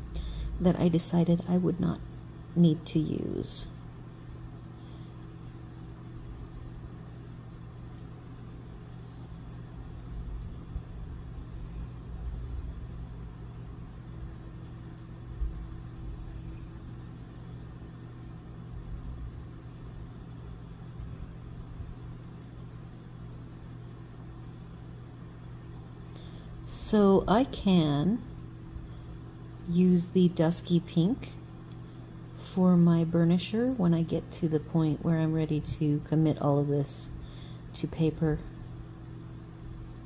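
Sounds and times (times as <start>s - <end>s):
electrical hum: 0.0s - 40.0s
low room rumble: 0.0s - 40.0s.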